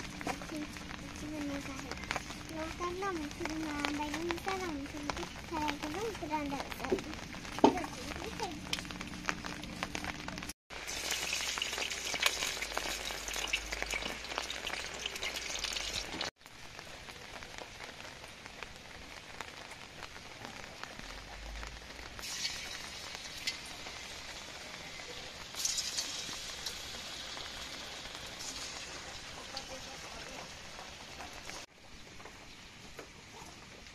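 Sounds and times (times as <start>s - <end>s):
dough balls deep-frying in oil: 0.0s - 33.9s.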